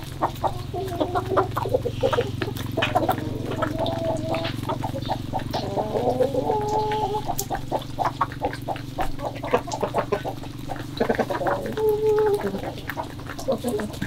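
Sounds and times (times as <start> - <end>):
beaks tapping on concrete: 0.0 - 14.0
chicken call: 0.2 - 12.9.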